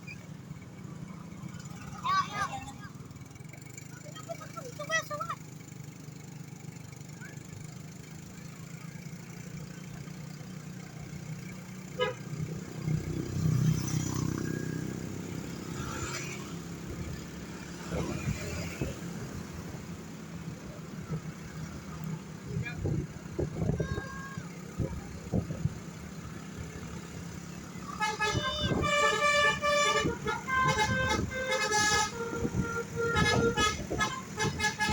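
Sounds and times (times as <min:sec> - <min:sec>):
low hum of traffic: 0:00.0 - 0:34.9.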